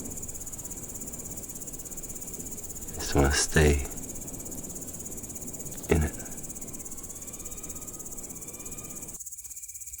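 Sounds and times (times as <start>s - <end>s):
grasshopper buzzing trill: 0.0s - 10.0s.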